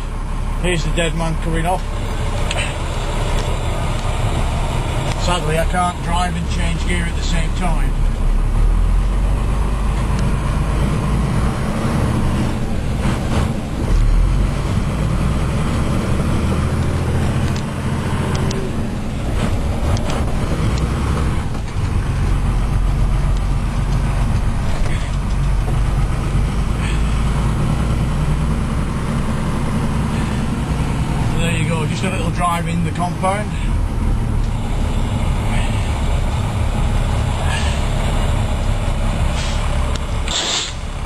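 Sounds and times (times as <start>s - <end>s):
diesel truck engine under load: 0.0s - 41.0s.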